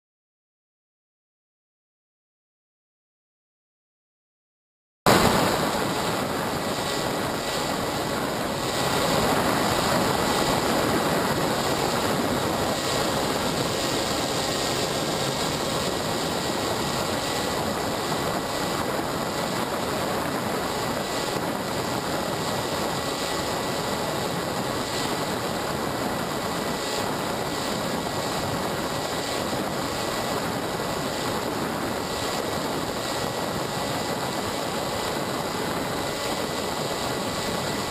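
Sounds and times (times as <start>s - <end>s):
rc aircraft motors whirring: 5.2s - 37.9s.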